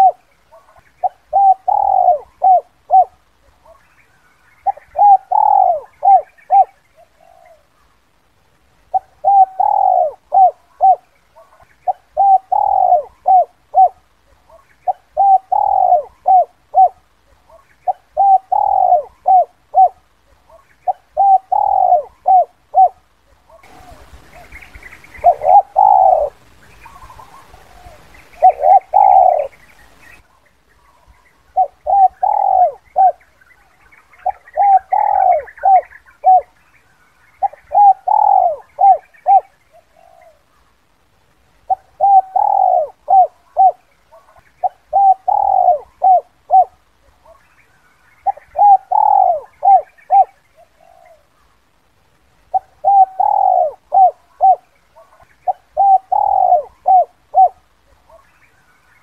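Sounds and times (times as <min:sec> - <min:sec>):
dove cooing: 0:00.0 - 0:08.0, 0:08.8 - 0:36.6, 0:37.4 - 0:40.6, 0:41.6 - 0:47.5, 0:48.1 - 0:51.6, 0:52.4 - 0:58.4.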